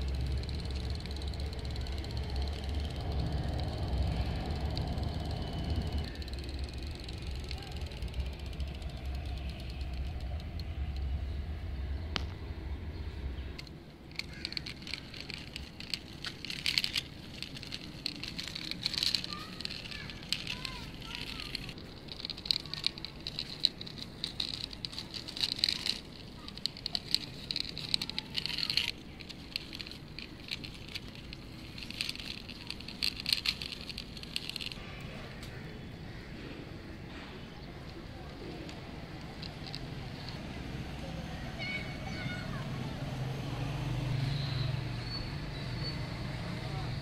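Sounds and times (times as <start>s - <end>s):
toy truck wheels rolling on concrete: 0.0s - 12.4s, 13.0s - 36.0s, 36.9s - 47.0s
low background rumble: 0.0s - 44.2s.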